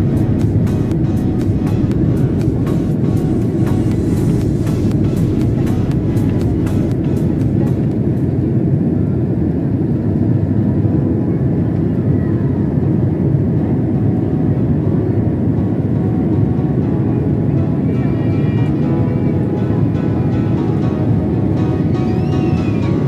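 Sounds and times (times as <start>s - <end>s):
airliner cabin roar: 0.0s - 23.0s.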